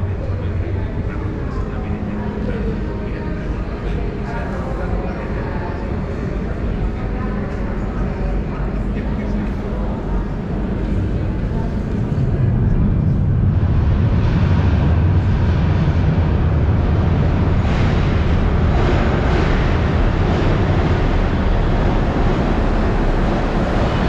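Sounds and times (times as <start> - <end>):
train rumbling in tunnel: 0.0 - 24.0.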